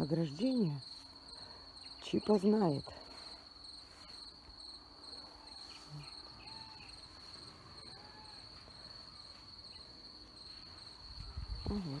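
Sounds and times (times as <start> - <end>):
crickets chirring: 0.0 - 12.0
higher cricket chirp: 0.0 - 12.0.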